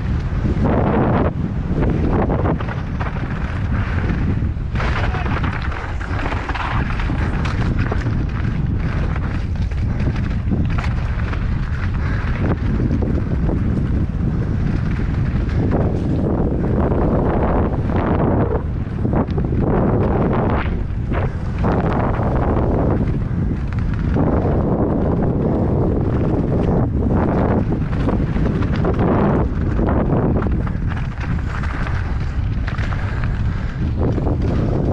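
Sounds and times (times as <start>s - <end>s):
bike rattling on rocky trail: 0.0s - 34.9s
wind buffeting microphone: 0.0s - 34.9s.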